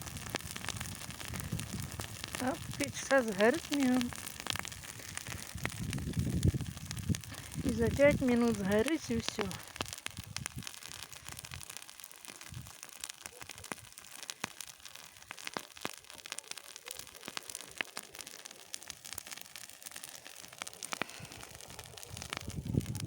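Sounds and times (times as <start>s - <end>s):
bonfire crackling and popping: 0.0s - 23.0s
fire hissing: 0.0s - 23.0s.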